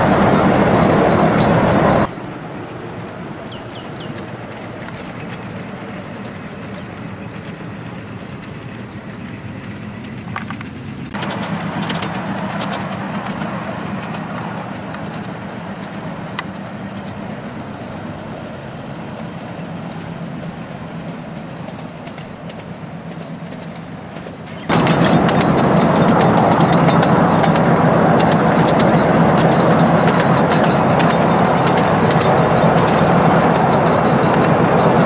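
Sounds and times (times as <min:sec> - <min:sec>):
miniature locomotive engine running: 0:00.0 - 0:35.0.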